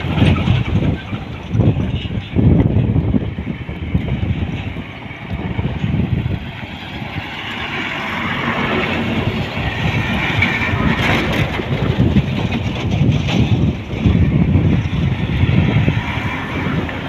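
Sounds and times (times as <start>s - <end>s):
heavy vehicle passing: 0.0s - 17.0s.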